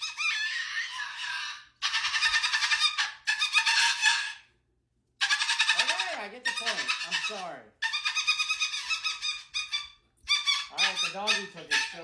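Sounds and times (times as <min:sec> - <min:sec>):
cockatoo screeching: 0:00.0 - 0:04.5, 0:05.2 - 0:12.0.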